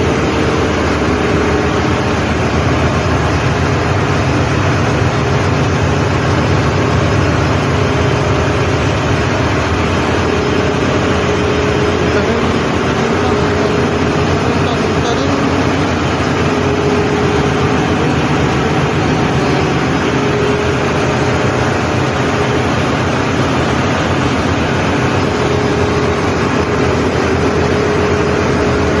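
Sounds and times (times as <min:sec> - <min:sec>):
engine-room machinery drone: 0:00.0 - 0:29.0.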